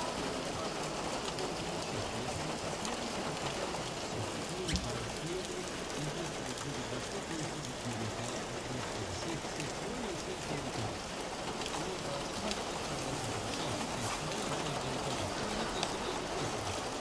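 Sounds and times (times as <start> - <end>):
faint voices murmuring: 0.0 - 17.0.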